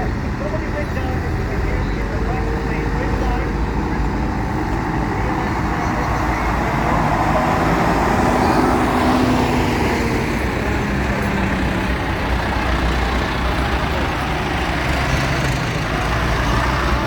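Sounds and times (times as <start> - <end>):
passing tractors and lorries: 0.0 - 17.0
road noise: 0.0 - 17.0.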